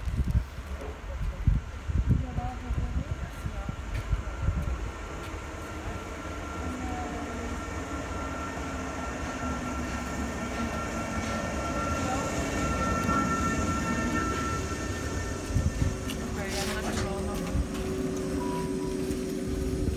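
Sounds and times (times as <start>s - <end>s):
electric train arriving: 0.9s - 19.9s.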